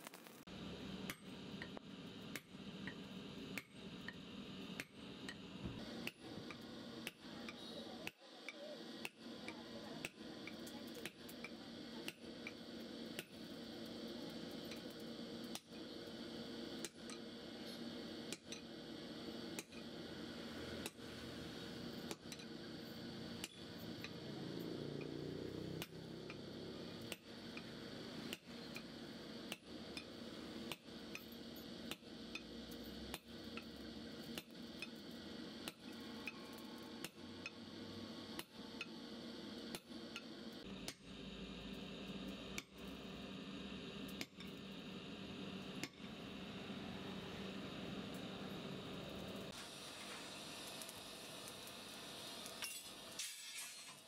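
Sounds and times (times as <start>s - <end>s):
steady background noise: 0.0s - 53.2s.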